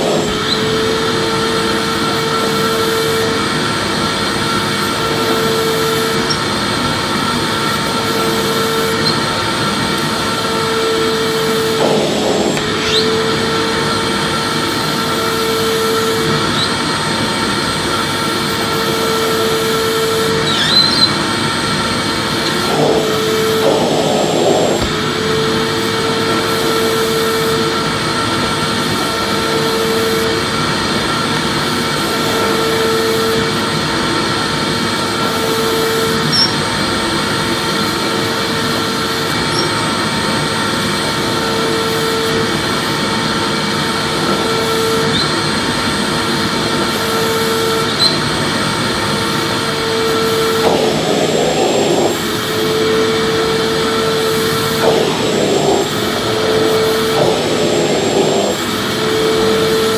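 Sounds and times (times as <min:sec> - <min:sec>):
vacuum cleaner whining hum: 0:00.0 - 0:59.9.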